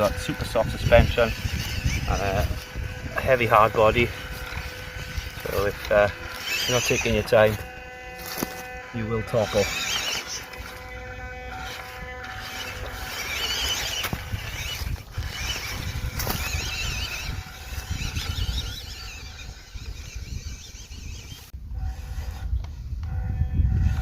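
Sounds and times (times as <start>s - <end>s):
toy car motor whining: 0.0s - 24.0s.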